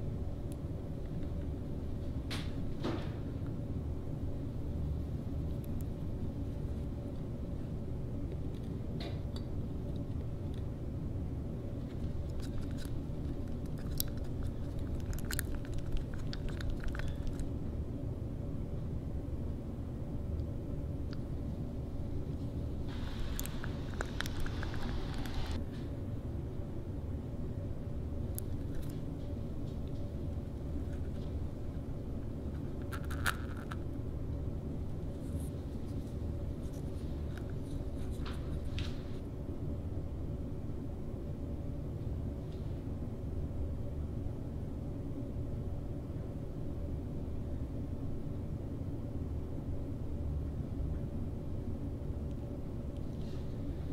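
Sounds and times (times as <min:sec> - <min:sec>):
low background rumble: 0:00.0 - 0:53.9
low workshop hum: 0:00.0 - 0:53.9.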